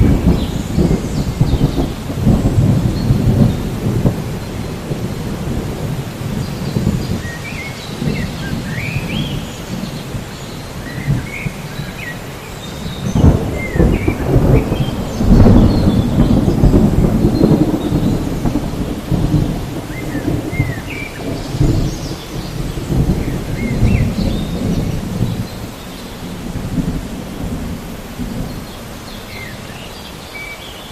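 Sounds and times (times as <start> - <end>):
thunder rumbling: 0.0 - 29.7
steady rain: 0.0 - 30.9.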